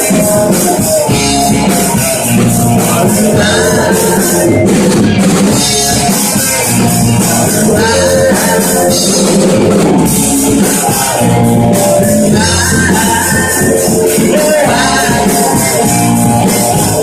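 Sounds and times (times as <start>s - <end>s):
drum kit with cymbals: 0.0s - 17.0s
rock guitars: 0.0s - 17.0s.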